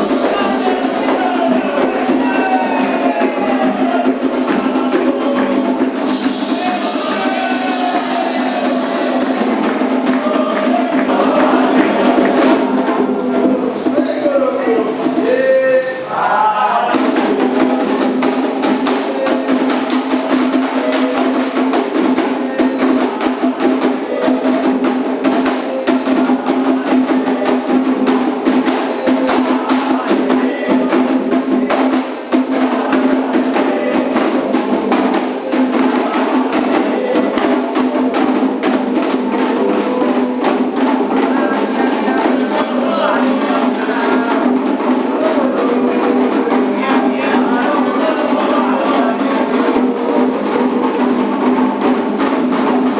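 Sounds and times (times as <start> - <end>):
struck bell beat: 0.0 - 15.6, 16.8 - 52.9
hand drums fast rhythm: 0.0 - 52.9
people singing: 0.0 - 52.9.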